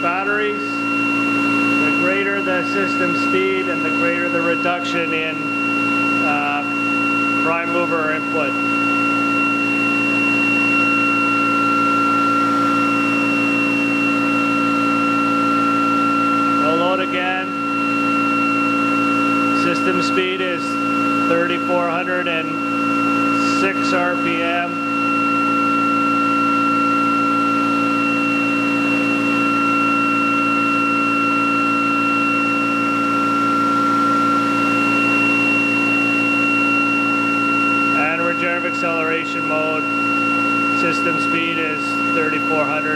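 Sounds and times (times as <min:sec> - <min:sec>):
motor and generator whine: 0:00.0 - 0:42.9.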